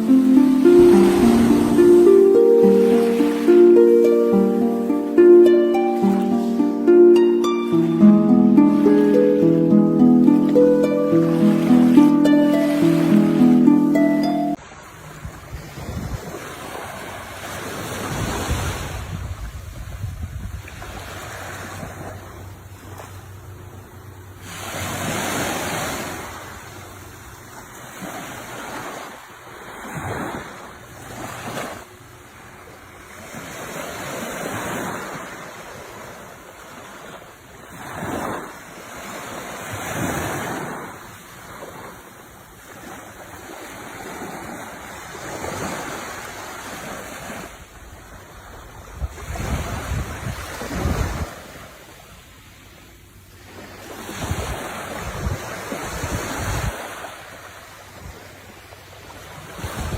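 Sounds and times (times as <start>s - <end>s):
sea waves breaking ashore: 0.0s - 19.5s, 20.5s - 59.9s.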